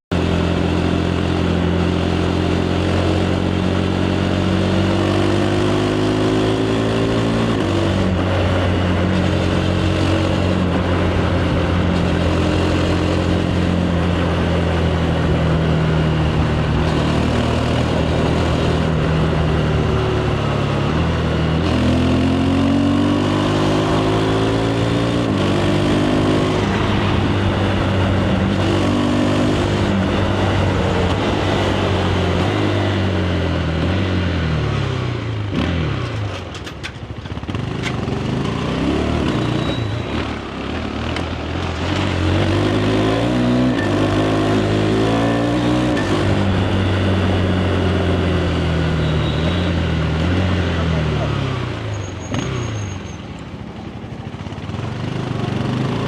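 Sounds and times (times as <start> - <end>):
motorcycle engine accelerating: 0.1 - 56.0
wind and road noise: 0.1 - 56.0.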